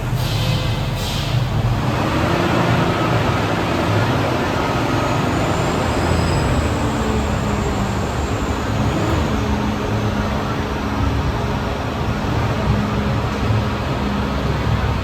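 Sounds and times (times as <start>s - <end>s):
tram rumbling: 0.0s - 15.0s.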